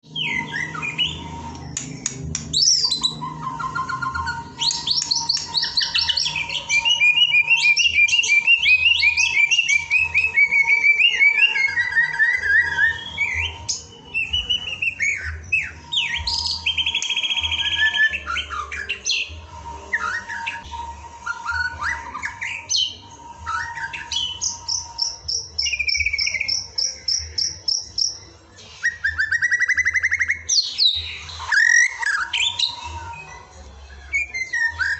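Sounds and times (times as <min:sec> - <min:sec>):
songbird singing trills and whistles: 0:00.0 - 0:34.9.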